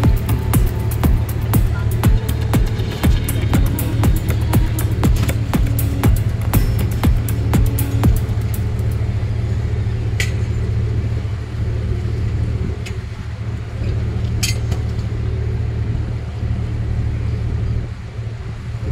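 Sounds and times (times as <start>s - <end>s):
boat engine droning: 0.0s - 18.9s.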